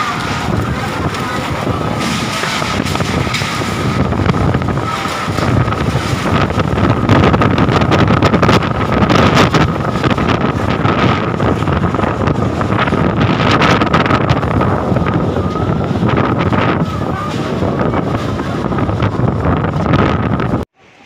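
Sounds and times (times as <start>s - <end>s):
wind buffeting microphone: 0.0s - 20.7s
strong gusting wind: 0.0s - 20.8s.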